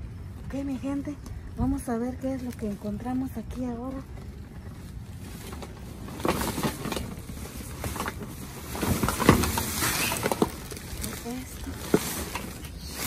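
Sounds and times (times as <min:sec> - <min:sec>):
plastic bags and boxes rustling: 0:02.3 - 0:13.0.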